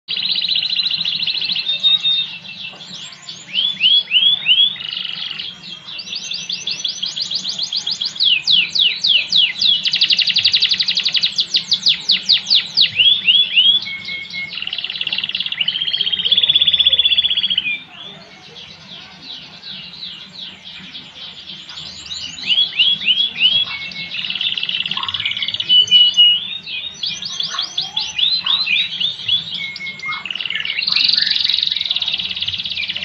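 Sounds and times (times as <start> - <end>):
canary singing trills: 0.1 - 33.0.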